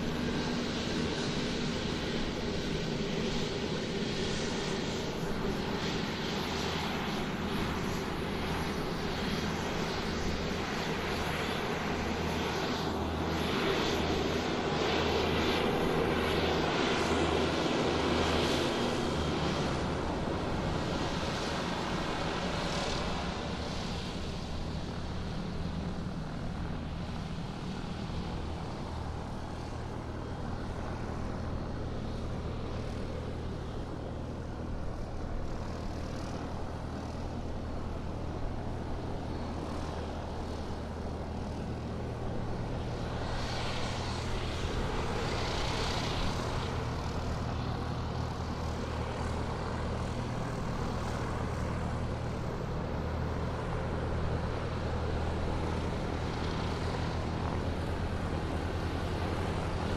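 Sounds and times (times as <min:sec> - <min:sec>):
airplane engine running: 0:00.0 - 0:59.9.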